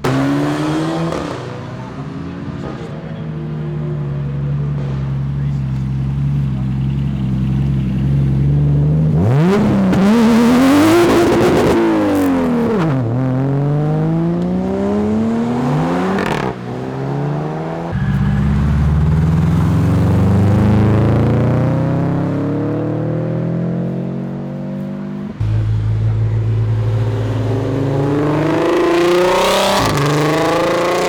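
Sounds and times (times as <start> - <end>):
car engine accelerating: 0.0 - 31.0
car engine revving: 0.0 - 31.0.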